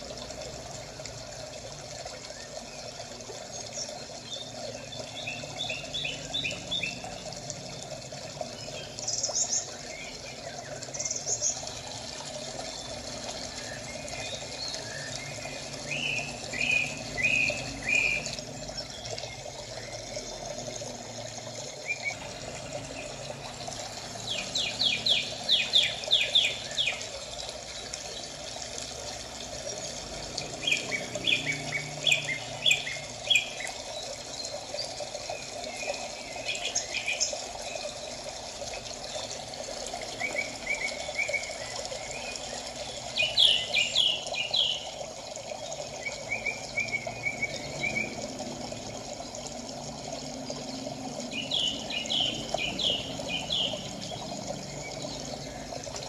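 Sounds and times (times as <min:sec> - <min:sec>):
running water: 0:00.0 - 0:56.0
birds chirping: 0:02.0 - 0:07.5, 0:08.4 - 0:28.5, 0:29.8 - 0:38.2, 0:40.1 - 0:45.0, 0:45.6 - 0:48.3, 0:50.5 - 0:56.0.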